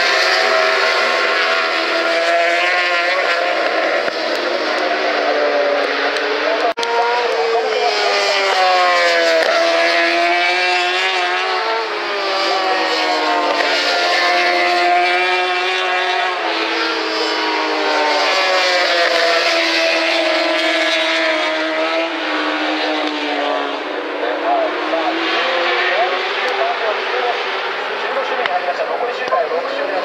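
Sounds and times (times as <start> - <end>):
racing motorcycle engines: 0.0 - 30.0.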